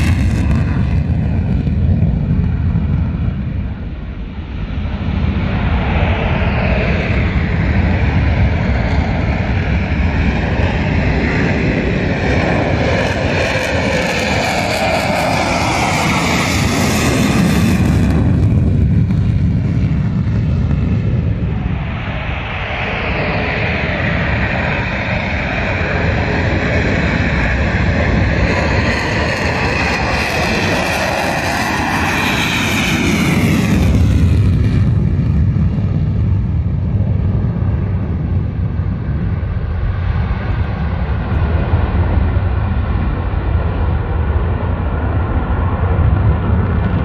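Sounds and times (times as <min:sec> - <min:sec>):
jet engines roaring at takeoff: 0:00.0 - 0:47.0.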